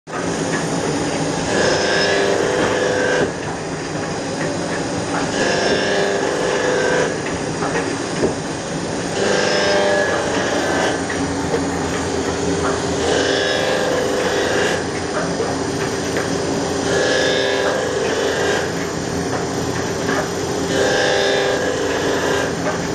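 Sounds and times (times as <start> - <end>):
bookbinding machine humming: 0.1 - 22.9.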